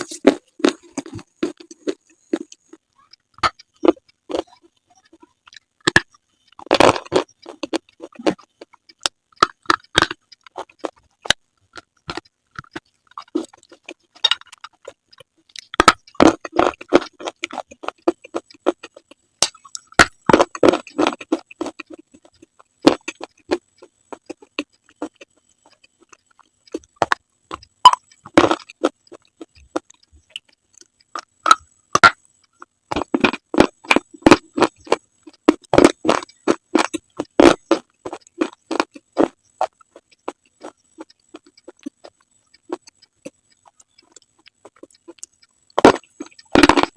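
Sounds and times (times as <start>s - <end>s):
chewing brittle slate: 0.0s - 46.9s.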